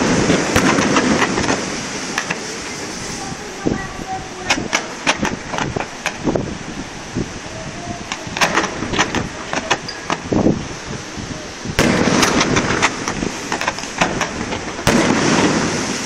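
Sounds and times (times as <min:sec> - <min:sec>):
fireworks bangs and crackling pops: 0:00.0 - 0:06.5, 0:08.1 - 0:10.8, 0:11.7 - 0:16.0.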